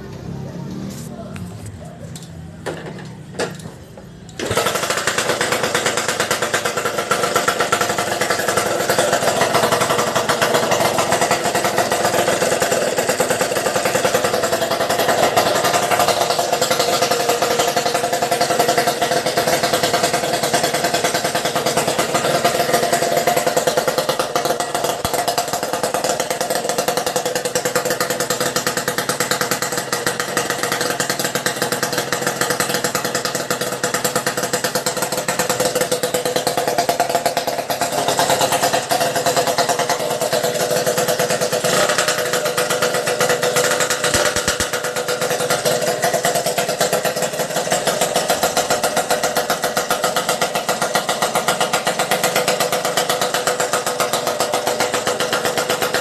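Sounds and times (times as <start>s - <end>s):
two-stroke engine exhaust: 0.0s - 56.0s
engine knocks: 1.1s - 56.0s.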